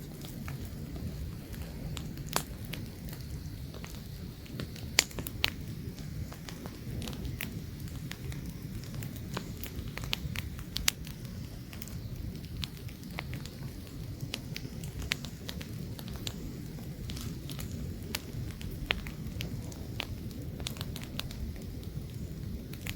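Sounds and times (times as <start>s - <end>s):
campfire crackling and popping: 0.0s - 22.9s
light wind: 0.0s - 22.9s
low rumble of flames: 0.0s - 22.9s.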